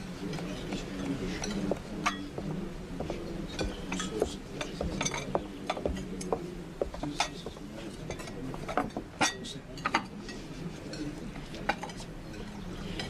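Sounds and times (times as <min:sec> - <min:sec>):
dishes and cutlery clinking: 0:00.0 - 0:13.0
low background hum: 0:00.0 - 0:13.0.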